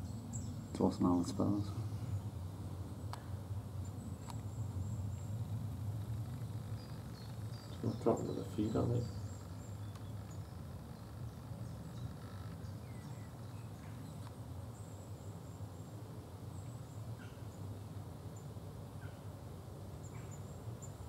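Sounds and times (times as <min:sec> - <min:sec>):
low background rumble: 0:00.0 - 0:21.0
small birds chirping: 0:00.0 - 0:21.0.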